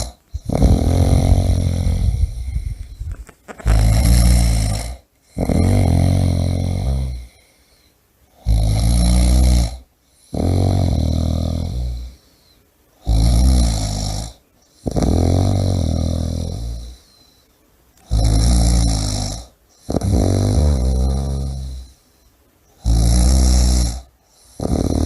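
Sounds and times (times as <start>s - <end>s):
person snoring loudly: 0.0s - 3.0s, 3.6s - 7.4s, 8.4s - 12.2s, 13.0s - 17.0s, 18.0s - 22.0s, 22.8s - 25.0s.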